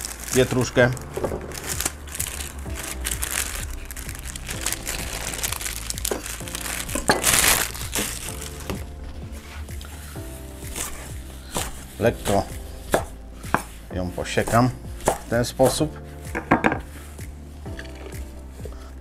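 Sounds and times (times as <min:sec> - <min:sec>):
parsley crinkling and rustling: 0:00.0 - 0:17.1
background music: 0:00.0 - 0:19.0.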